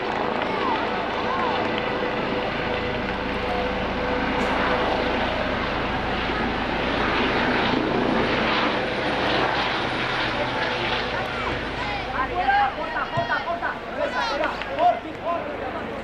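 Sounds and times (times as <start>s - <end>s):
aircraft engine rushing: 0.0s - 16.0s.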